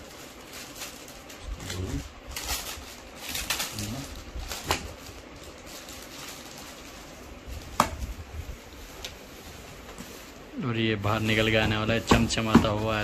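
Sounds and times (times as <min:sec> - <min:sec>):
cloth bag rustling: 0:00.0 - 0:13.0.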